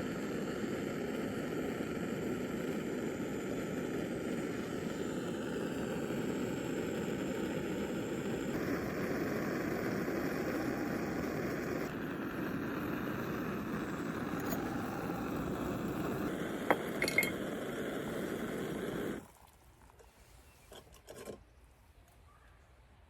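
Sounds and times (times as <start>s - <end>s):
steady rushing noise: 0.0s - 19.2s.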